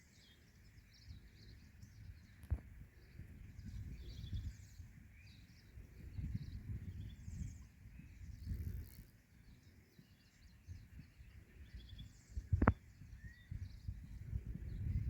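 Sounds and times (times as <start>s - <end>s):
small birds chirping faintly: 0.0s - 15.0s.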